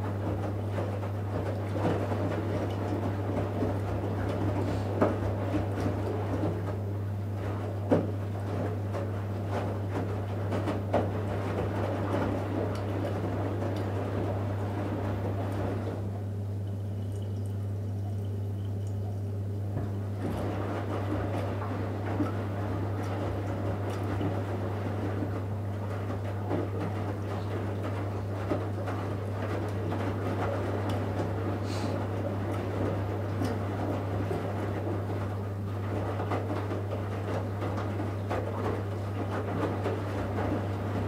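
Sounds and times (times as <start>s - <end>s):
washing machine drum tumbling: 0.0s - 16.2s, 19.7s - 41.0s
washing machine hum: 0.0s - 41.0s.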